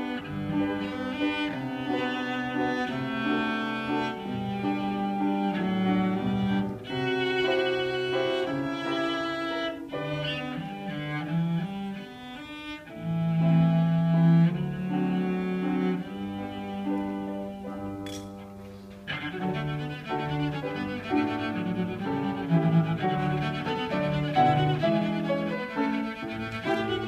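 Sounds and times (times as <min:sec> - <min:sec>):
bowed cello melody: 0:00.0 - 0:27.0
piano accompaniment: 0:00.0 - 0:27.0.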